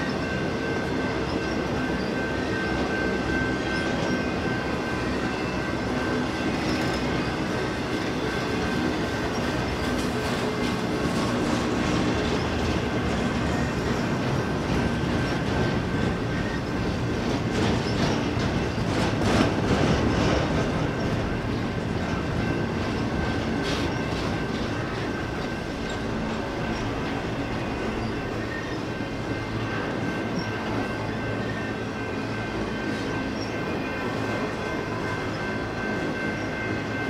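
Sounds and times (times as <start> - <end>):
freight train wheels rumbling on rail: 0.0 - 37.0
train clanks: 0.0 - 37.0.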